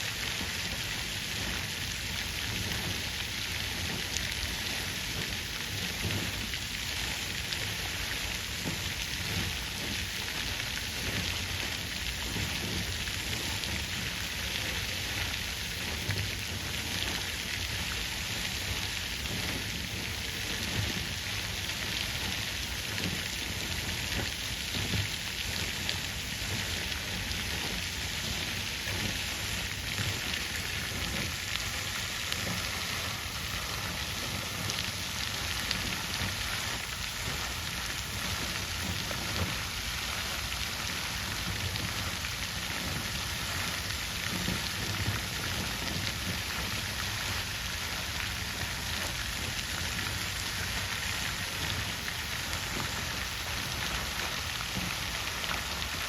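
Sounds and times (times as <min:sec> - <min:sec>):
water fountain splashing into pool: 0:00.0 - 0:56.0.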